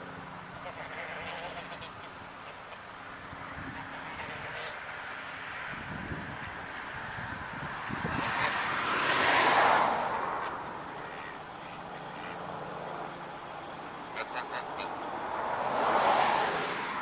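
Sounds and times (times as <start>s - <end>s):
steady outdoor hiss: 0.0s - 17.0s
vehicles passing by: 0.0s - 17.0s.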